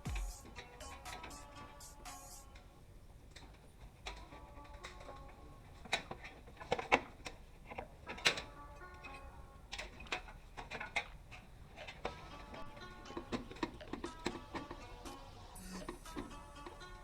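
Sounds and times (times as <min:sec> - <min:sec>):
background music of held notes: 0:00.0 - 0:17.0.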